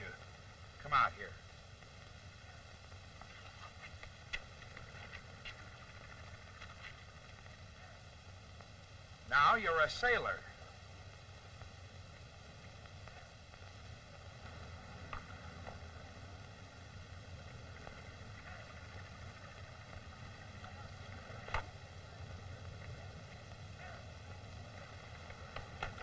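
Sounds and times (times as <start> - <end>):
film soundtrack hiss and hum: 0.0 - 26.0.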